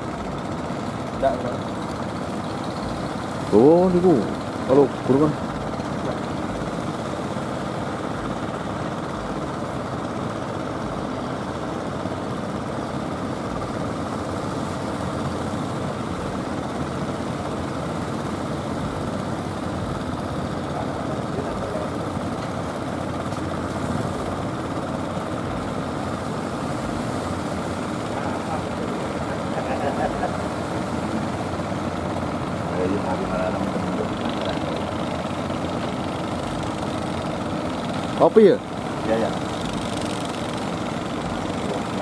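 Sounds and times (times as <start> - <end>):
boat engine drone: 0.0 - 42.0.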